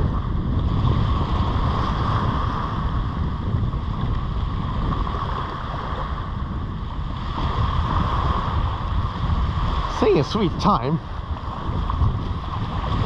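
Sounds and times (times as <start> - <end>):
surf washing on beach: 0.0 - 13.0
wind buffeting microphone: 0.0 - 13.0.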